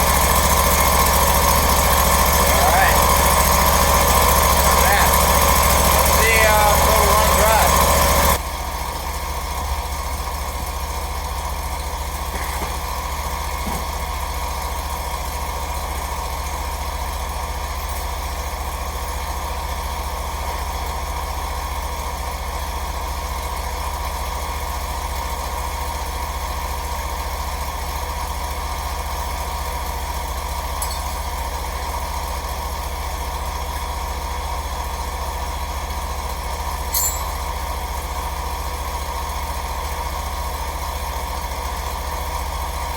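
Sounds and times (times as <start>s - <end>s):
mower engine running: 0.0s - 42.9s.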